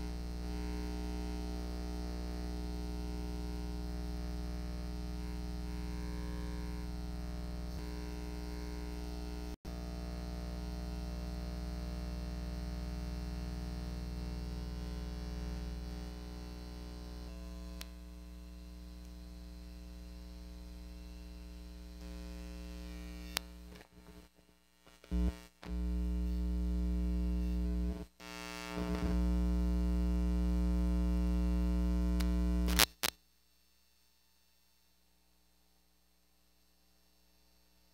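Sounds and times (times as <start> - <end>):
electrical buzzing hum: 0.0 - 33.1.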